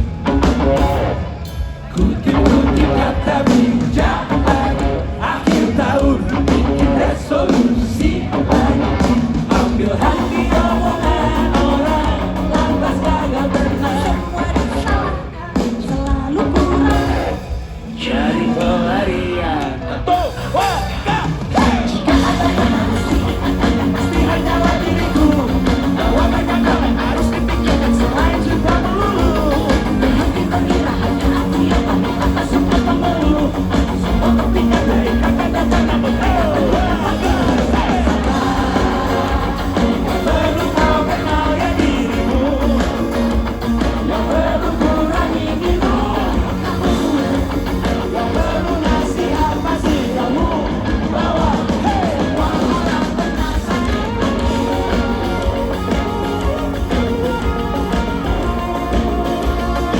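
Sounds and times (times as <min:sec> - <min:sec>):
live band playing: 0:00.0 - 0:59.9
person singing: 0:01.8 - 0:59.9.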